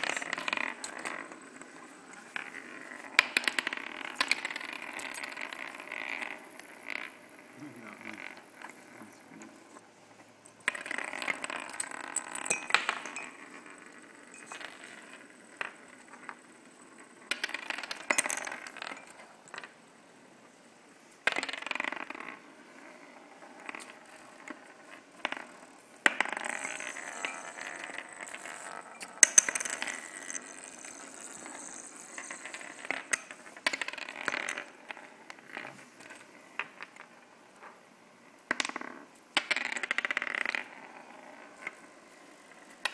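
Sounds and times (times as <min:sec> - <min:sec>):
spinning tops rattling on wood: 0:00.0 - 0:09.4, 0:10.5 - 0:19.8, 0:21.2 - 0:42.9.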